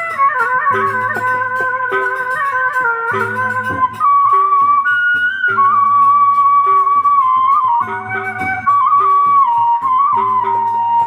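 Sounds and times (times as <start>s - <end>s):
wind instrument melody: 0.0s - 11.0s.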